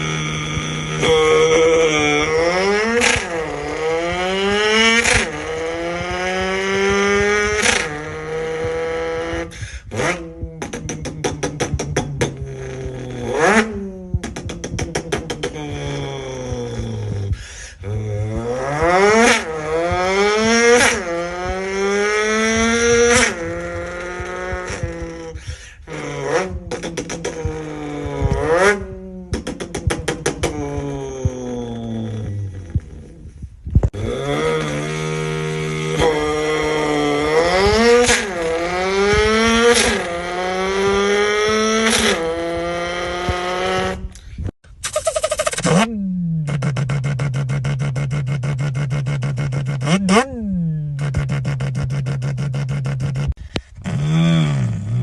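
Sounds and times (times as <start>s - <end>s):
car engine accelerating hard: 0.0s - 44.5s, 45.7s - 55.0s.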